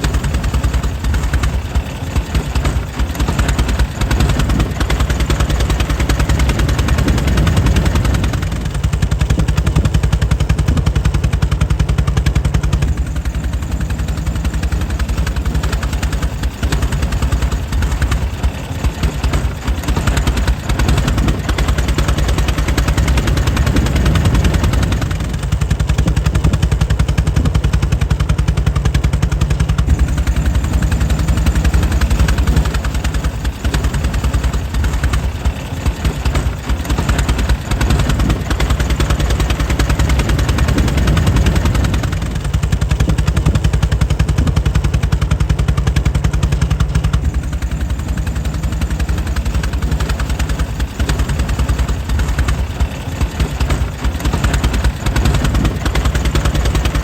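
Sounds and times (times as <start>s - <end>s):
engine running with firing pops: 0.0s - 57.0s.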